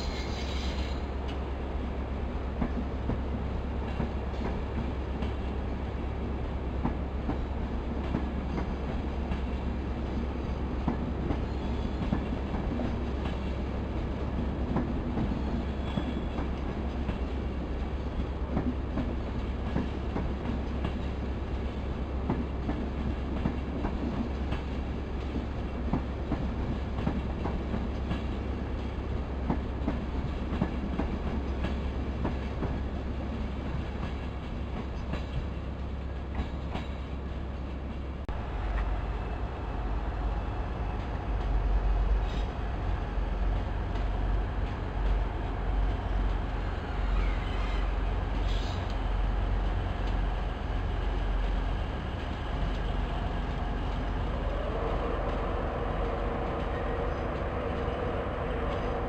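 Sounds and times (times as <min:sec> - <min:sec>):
train coaches rumbling: 0:00.0 - 0:59.0.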